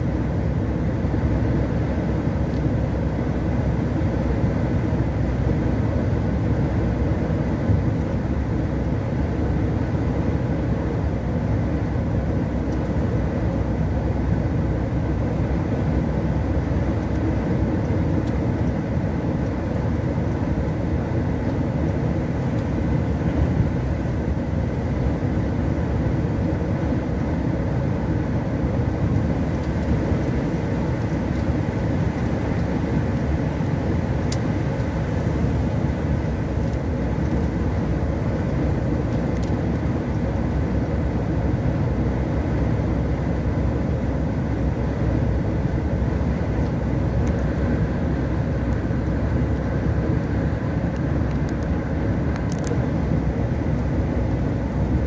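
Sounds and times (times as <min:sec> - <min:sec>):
vehicle engine and tyre rumble: 0:00.0 - 0:55.0.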